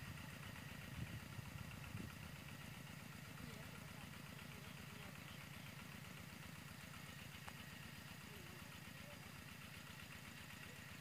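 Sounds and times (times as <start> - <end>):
faint diesel engine running: 0.0 - 11.0.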